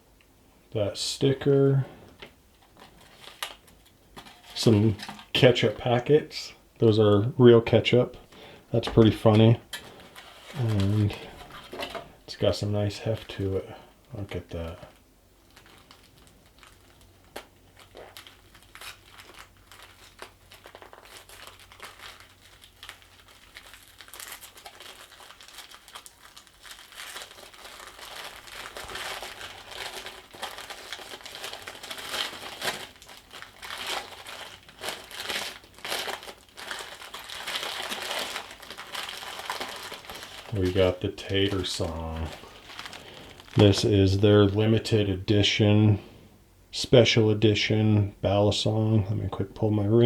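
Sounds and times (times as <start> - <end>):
packaging crinkling and rustling: 2.0 - 6.2, 8.7 - 44.9.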